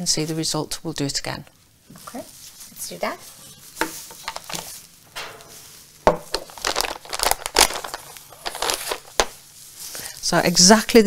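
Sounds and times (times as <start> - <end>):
plastic crinkling and rustling: 1.8 - 11.0.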